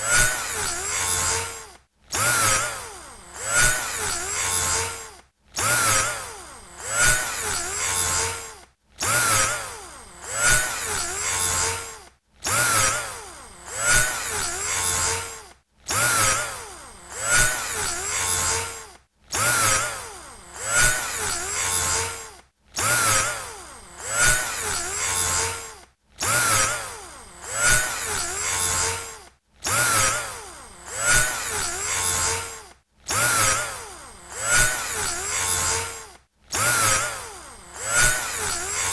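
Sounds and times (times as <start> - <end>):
electric drill motor whining: 0.0 - 38.9.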